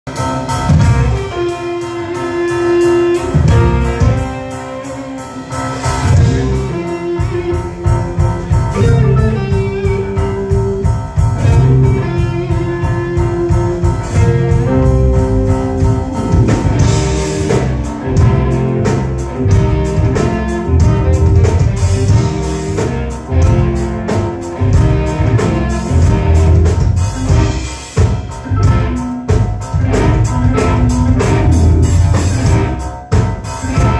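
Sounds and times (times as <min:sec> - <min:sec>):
drum kit: 0:00.0 - 0:33.9
keyboards: 0:00.0 - 0:33.9
bass guitar: 0:00.1 - 0:33.9
electric guitar: 0:00.1 - 0:33.9.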